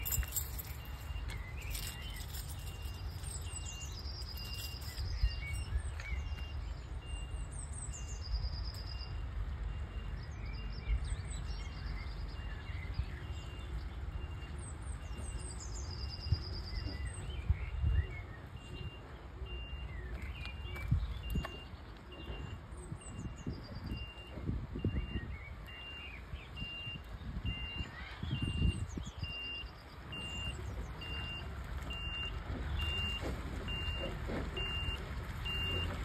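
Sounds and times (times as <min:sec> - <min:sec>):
birds singing: 0:00.0 - 0:09.2, 0:09.9 - 0:31.4
reversing alarm beeping: 0:00.0 - 0:36.0.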